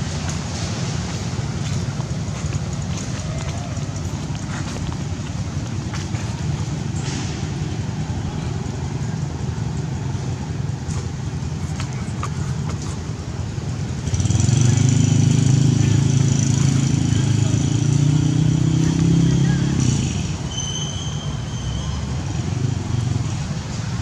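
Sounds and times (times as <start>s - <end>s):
vehicle engine running: 0.0s - 20.5s.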